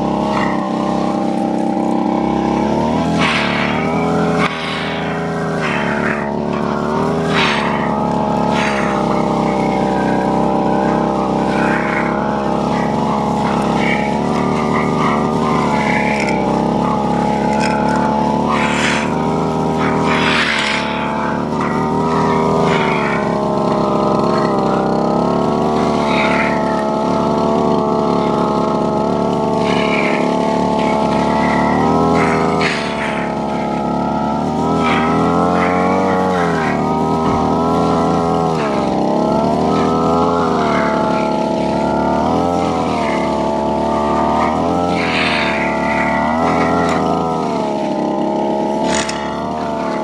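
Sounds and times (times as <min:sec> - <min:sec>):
brush cutter engine running: 0:00.0 - 0:50.0
short noisy bursts: 0:00.0 - 0:50.0.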